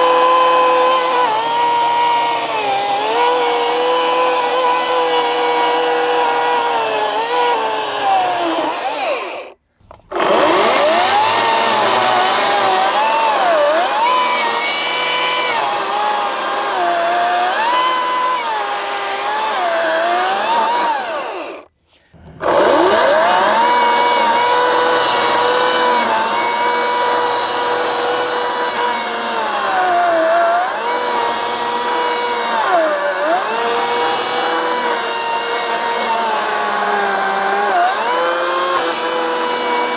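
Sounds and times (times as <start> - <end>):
battery chainsaw cutting wood: 0.0 - 39.9.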